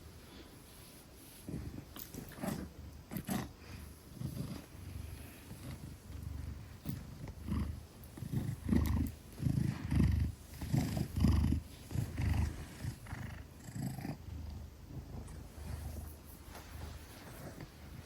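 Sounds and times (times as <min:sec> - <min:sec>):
cat purring: 0:00.3 - 0:18.0.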